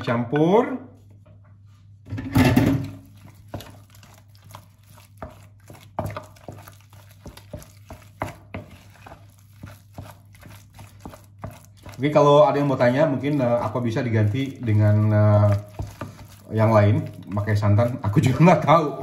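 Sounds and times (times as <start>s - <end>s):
wooden spoon scraping bowl: 2.8s - 19.0s.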